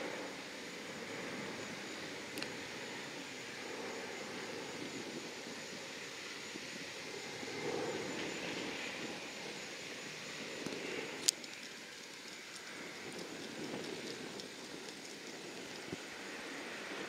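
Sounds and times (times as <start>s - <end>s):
distant aircraft engines rushing: 0.0s - 17.0s.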